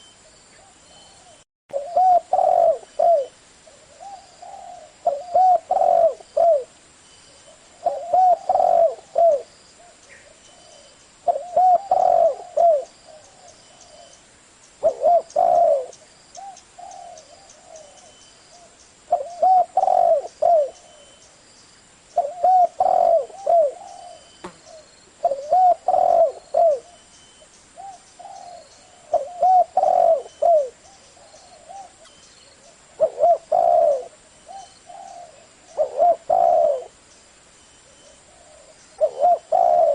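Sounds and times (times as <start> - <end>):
dove cooing: 0.6 - 6.7, 7.5 - 14.1, 14.8 - 21.2, 22.2 - 27.0, 27.8 - 37.0, 37.8 - 39.9.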